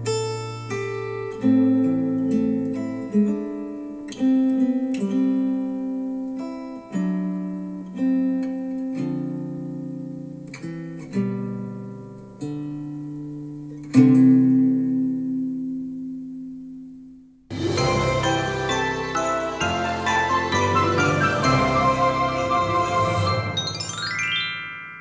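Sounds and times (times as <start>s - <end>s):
acoustic guitar chords: 0.0s - 24.1s.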